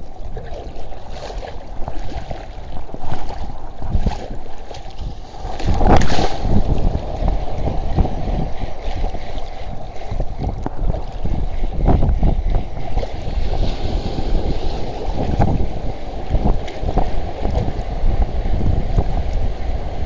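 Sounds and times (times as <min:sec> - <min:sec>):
choppy sea water: 0:00.0 - 0:20.0
wind buffeting microphone: 0:00.0 - 0:20.0.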